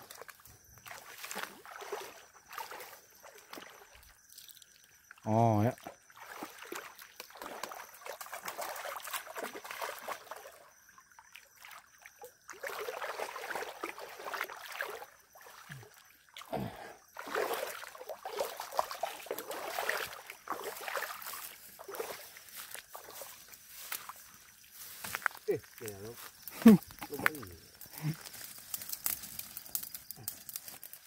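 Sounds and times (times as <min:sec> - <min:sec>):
floodwater splashing and sloshing: 0:00.0 - 0:05.1, 0:05.7 - 0:27.4.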